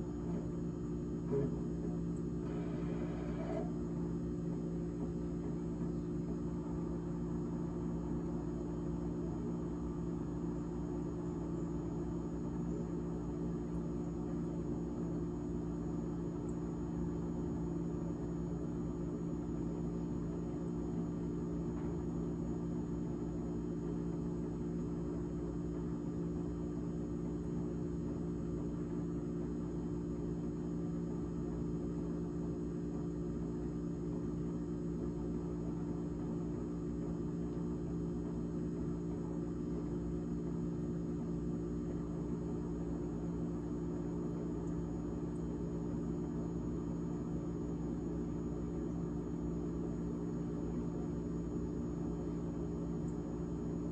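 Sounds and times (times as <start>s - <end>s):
refrigerator fan humming: 0.0s - 53.9s.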